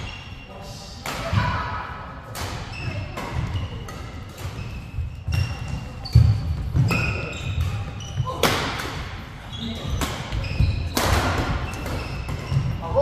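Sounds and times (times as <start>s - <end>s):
shoes squeaking on court: 2.6s - 13.0s.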